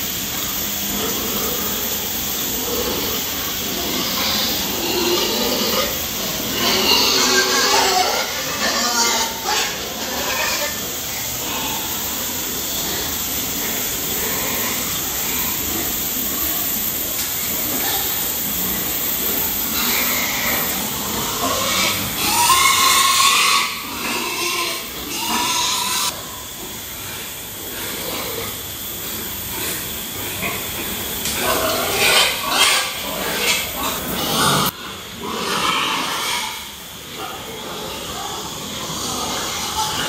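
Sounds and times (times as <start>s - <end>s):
pigs grunting and squealing: 0.0s - 40.0s
steady hiss: 0.0s - 40.0s.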